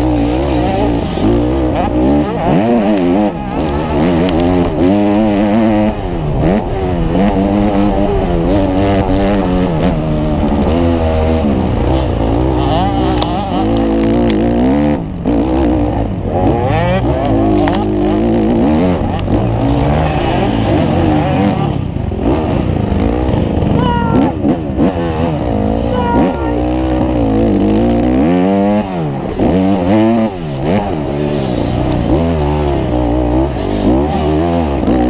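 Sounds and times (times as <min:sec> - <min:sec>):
dirt bike engine revving: 0:00.0 - 0:35.0
second dirt bike engine: 0:00.0 - 0:35.0.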